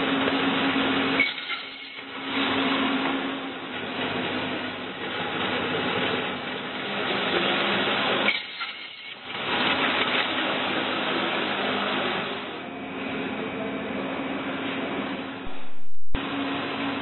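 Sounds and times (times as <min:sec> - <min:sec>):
machine whirring hum: 0:00.0 - 0:17.0.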